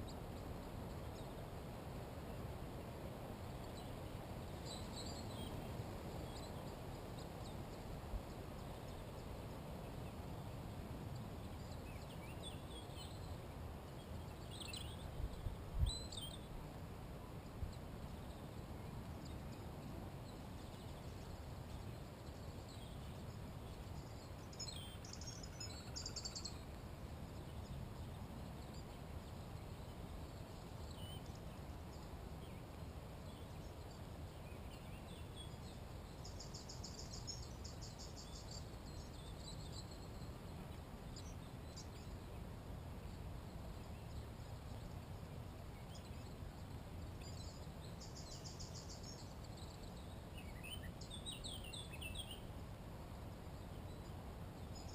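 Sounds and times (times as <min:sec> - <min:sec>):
songbirds trilling: 0:03.4 - 0:42.5, 0:43.2 - 0:52.6.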